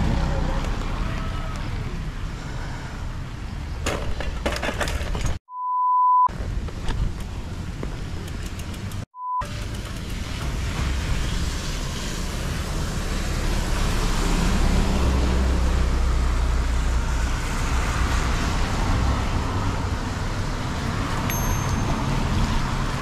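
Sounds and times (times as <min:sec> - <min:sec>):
road noise with deep rumble: 0:00.0 - 0:05.4, 0:06.3 - 0:23.0.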